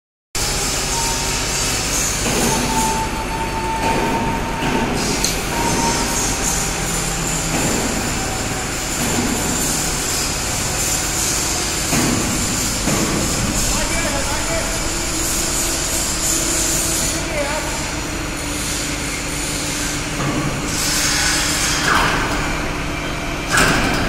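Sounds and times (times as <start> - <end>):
overhead crane rumbling: 0.4 - 24.0
thin high whine: 0.5 - 20.1.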